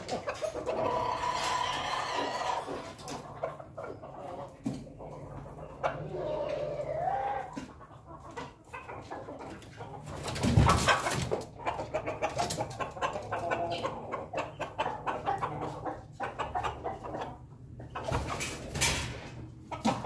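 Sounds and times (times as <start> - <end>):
roosters crowing and clucking: 0.0 - 20.0.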